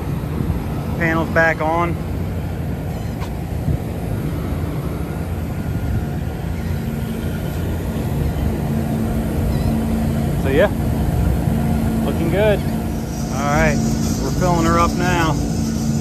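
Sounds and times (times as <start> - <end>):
low machinery drone: 0.0 - 16.0
steady hum: 0.0 - 16.0.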